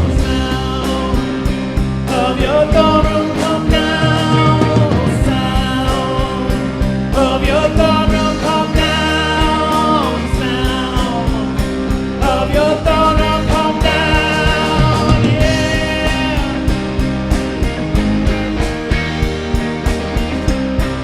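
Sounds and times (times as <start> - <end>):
guitar: 0.0 - 21.0
live rock band playing: 0.0 - 21.0
steady drum beat: 0.0 - 21.0.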